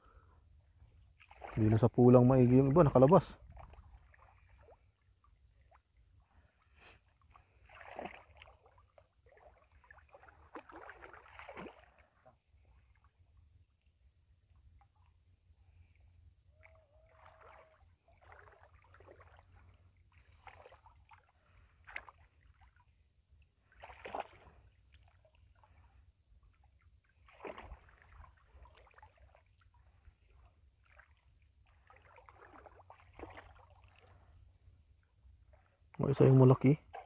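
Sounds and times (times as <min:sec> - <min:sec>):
water sloshing and splashing: 0:00.9 - 0:16.0, 0:16.6 - 0:37.0.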